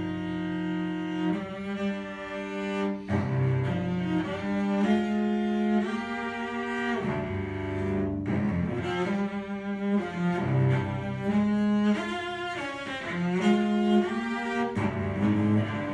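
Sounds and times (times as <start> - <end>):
bowed cello: 0.0 - 15.9.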